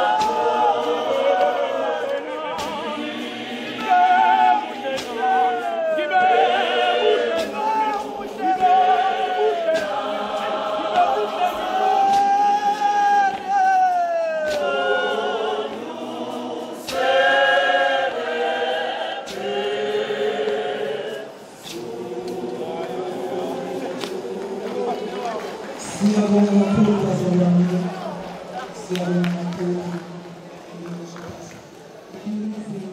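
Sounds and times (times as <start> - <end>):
congregation singing a hymn: 0.0 - 32.9.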